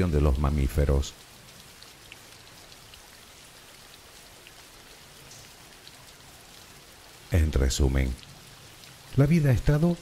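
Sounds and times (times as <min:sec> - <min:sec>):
rain hiss: 0:00.0 - 0:10.0.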